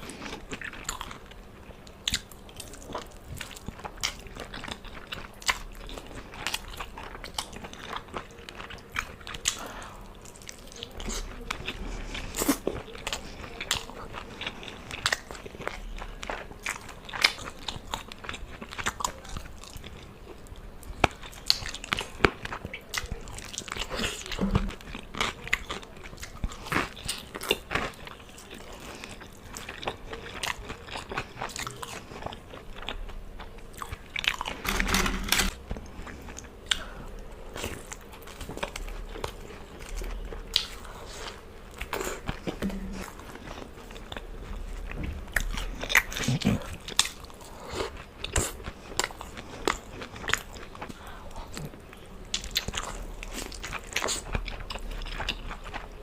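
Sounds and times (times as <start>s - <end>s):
chewing and biting food: 0.0s - 56.0s.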